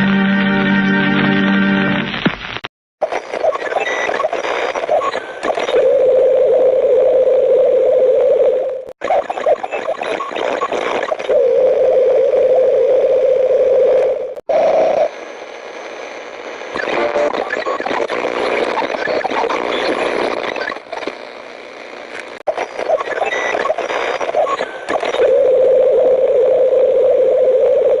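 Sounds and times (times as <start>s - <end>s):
crackling static: 1.2s - 28.0s.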